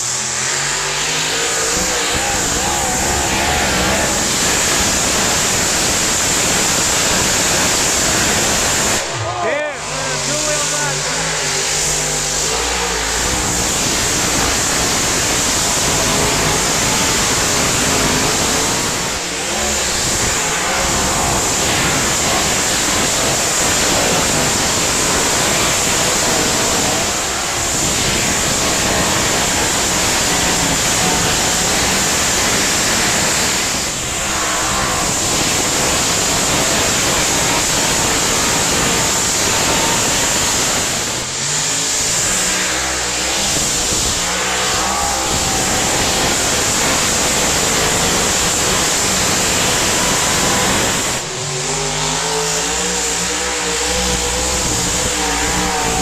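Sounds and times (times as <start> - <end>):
tractor engine at full throttle: 0.0 - 56.0.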